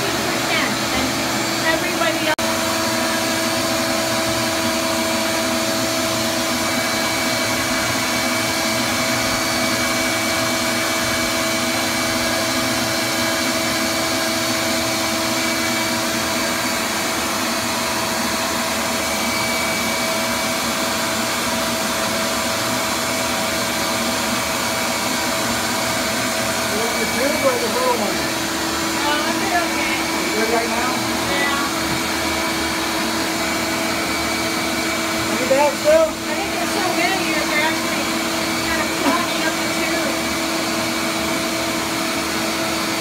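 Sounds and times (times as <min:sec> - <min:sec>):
vacuum motor humming and whining: 0:00.0 - 0:43.0.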